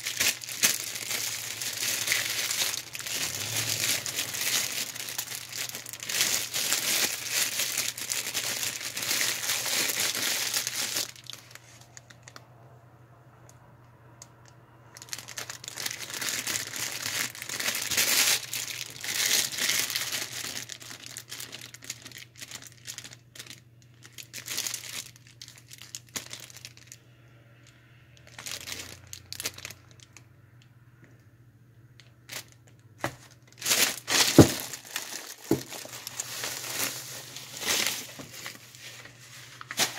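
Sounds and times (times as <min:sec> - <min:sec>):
plastic bags crinkling: 0:00.0 - 0:12.4, 0:14.9 - 0:27.0, 0:28.2 - 0:30.2, 0:32.0 - 0:39.9.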